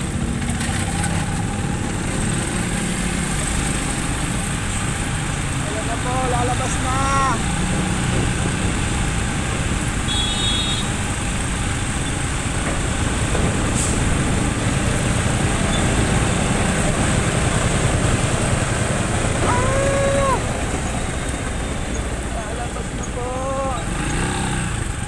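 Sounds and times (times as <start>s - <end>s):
motorcycle engine rumble: 0.0s - 25.0s.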